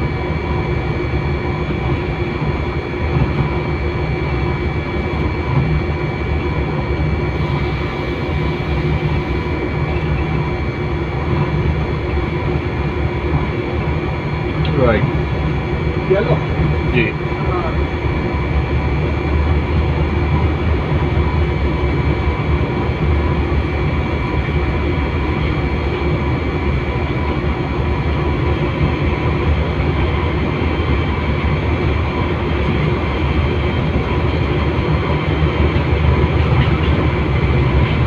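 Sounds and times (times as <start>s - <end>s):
locomotive engine drone: 0.0s - 38.0s
train running on rails: 0.0s - 38.0s.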